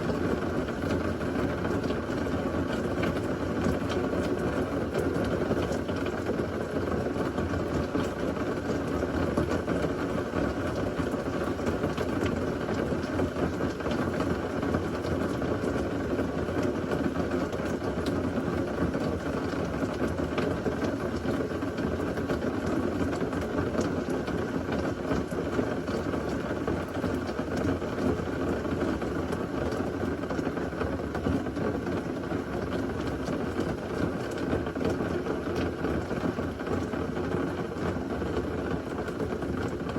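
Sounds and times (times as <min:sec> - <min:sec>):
heavy rain falling: 0:00.1 - 0:39.9
ticks of raindrops: 0:00.1 - 0:39.9.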